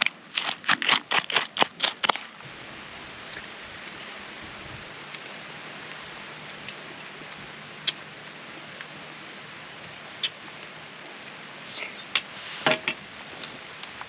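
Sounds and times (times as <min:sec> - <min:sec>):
soft outdoor hiss: 0:00.0 - 0:14.0.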